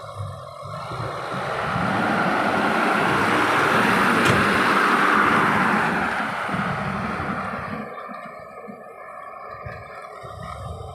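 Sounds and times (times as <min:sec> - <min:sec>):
diesel truck driving past: 0:00.0 - 0:10.9.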